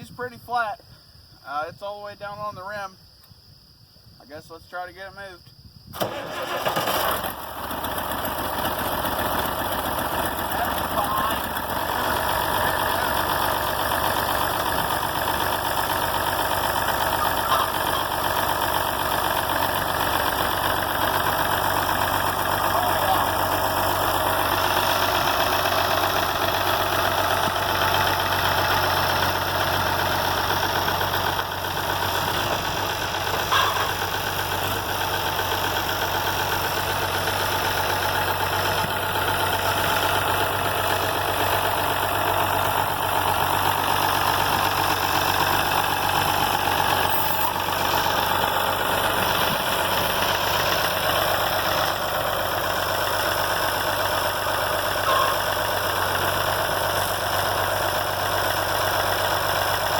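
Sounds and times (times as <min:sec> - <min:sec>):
tractor engine running: 0:05.9 - 0:59.9.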